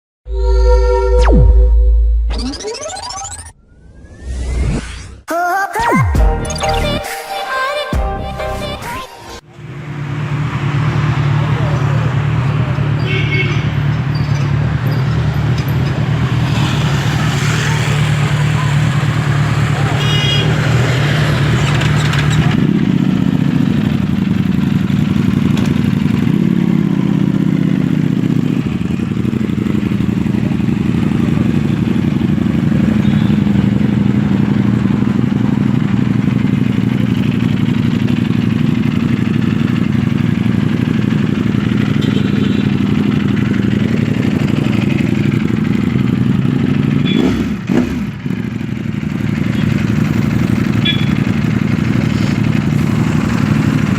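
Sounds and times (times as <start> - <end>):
motorcycle engine running: 9.5 - 53.9.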